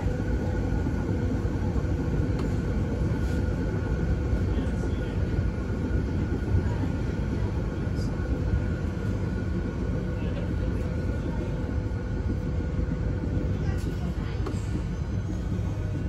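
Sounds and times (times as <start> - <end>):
tram rumbling on track: 0.0 - 16.0.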